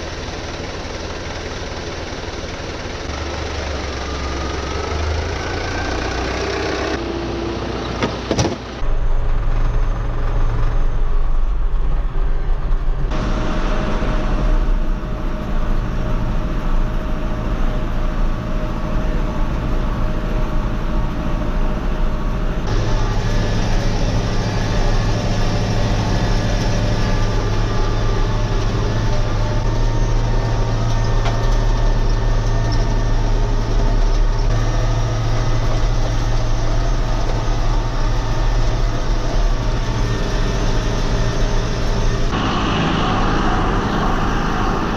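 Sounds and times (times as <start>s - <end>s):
vehicle engine humming: 0.0s - 44.9s.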